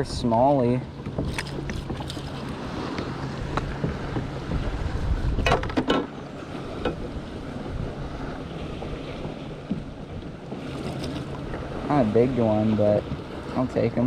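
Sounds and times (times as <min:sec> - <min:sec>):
water lapping around kayak: 0:00.0 - 0:14.0
wind on microphone: 0:00.0 - 0:14.0.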